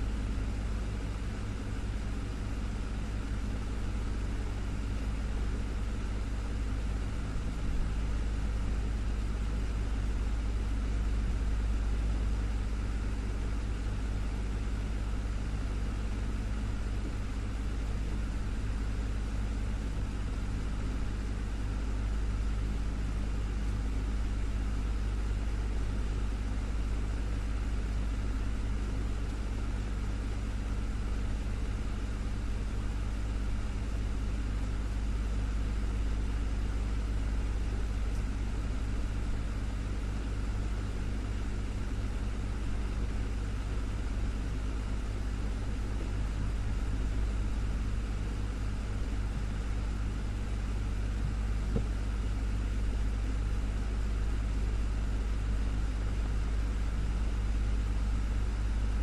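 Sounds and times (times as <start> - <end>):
desktop fan humming: 0.0 - 59.0.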